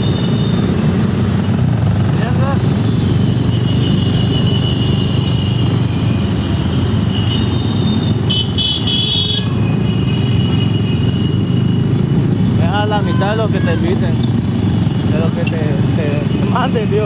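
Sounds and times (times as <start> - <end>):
motorcycle engine: 0.0 - 17.0
road noise: 0.0 - 17.0.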